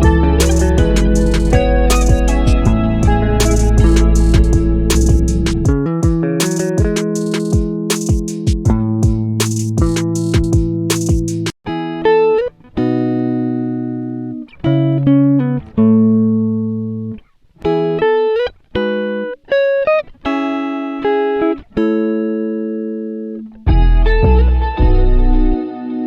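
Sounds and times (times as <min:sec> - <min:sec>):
plucked string music: 0:00.0 - 0:26.0.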